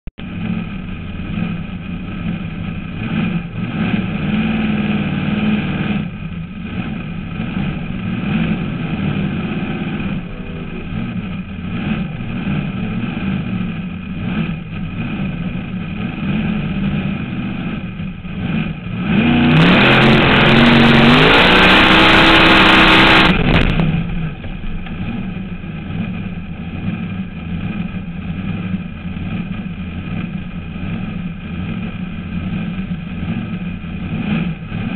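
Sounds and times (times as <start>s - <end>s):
drag car engine idling and revving: 0.2s - 34.9s.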